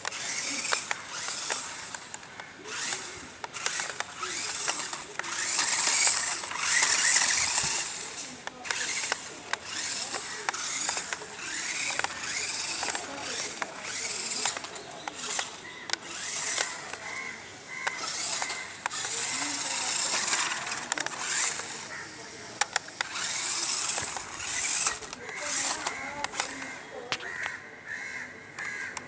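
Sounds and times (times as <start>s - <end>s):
small electric motor whining: 0.0s - 27.6s.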